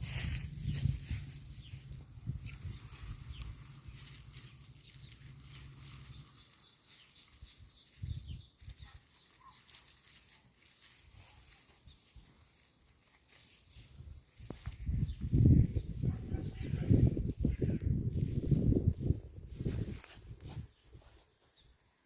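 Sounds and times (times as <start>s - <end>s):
hamster rustling in grass: 0.0s - 22.0s.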